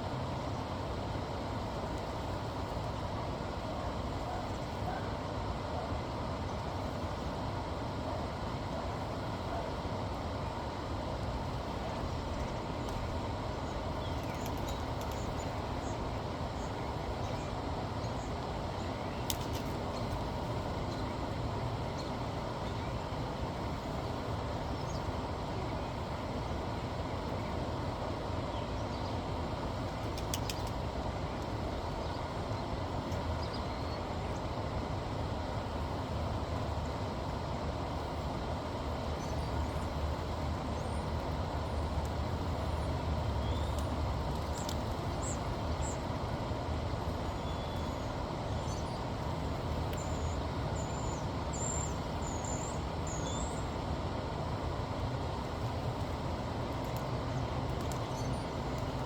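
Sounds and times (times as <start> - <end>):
outdoor rumble and hiss: 0.0 - 59.0.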